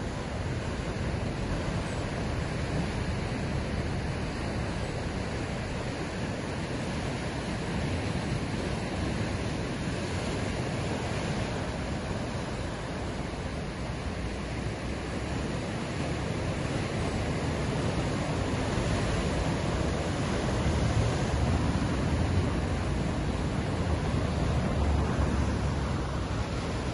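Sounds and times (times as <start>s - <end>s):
ocean waves breaking: 0.0s - 26.9s.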